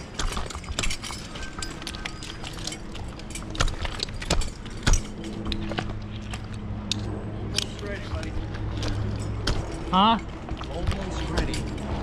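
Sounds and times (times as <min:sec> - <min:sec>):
climbing gear clinking: 0:00.0 - 0:12.0
low steady hum: 0:00.0 - 0:12.0.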